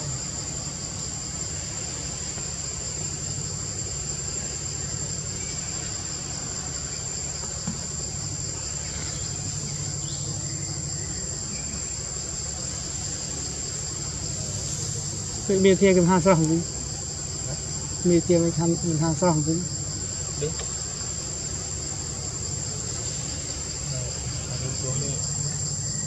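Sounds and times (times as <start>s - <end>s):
insect chorus: 0.0s - 26.0s.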